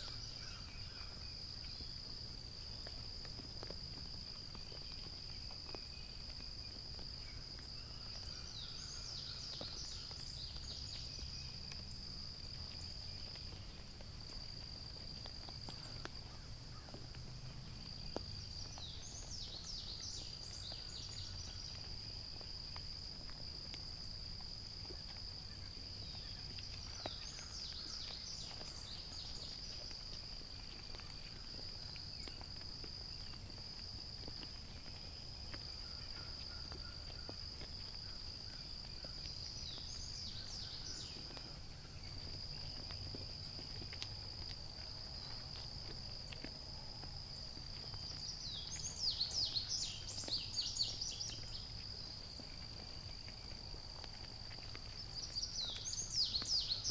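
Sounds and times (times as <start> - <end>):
high-pitched insect chorus: 0.0 - 56.9
songbird singing: 0.0 - 56.9.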